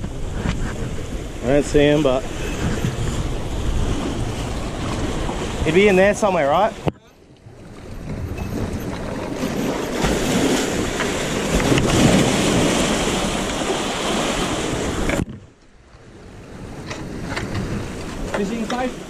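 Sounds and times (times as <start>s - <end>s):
waves washing over rocks: 0.0s - 6.9s, 7.5s - 15.3s, 16.1s - 19.0s
wind buffeting microphone: 0.0s - 19.0s.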